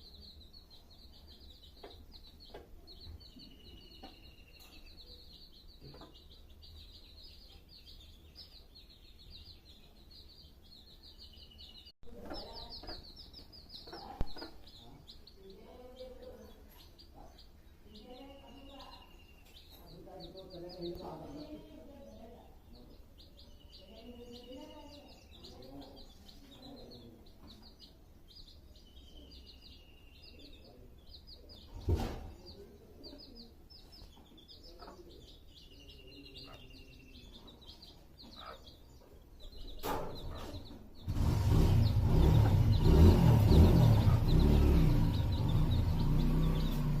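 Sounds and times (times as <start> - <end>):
chicks peeping: 0.0 - 47.0.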